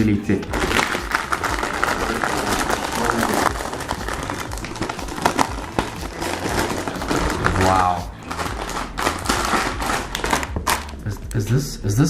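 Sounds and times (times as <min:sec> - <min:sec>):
plastic packaging crinkling: 0:00.5 - 0:11.0.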